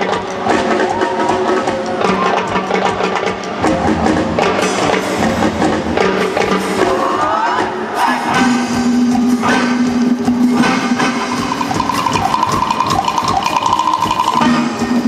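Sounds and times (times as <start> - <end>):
live band with drums and horns: 0.0 - 15.0.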